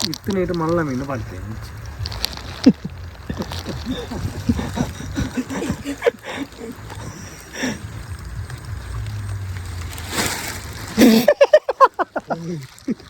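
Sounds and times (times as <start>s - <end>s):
low steady hum: 0.0s - 13.0s
water gurgling around a boat: 0.0s - 13.0s.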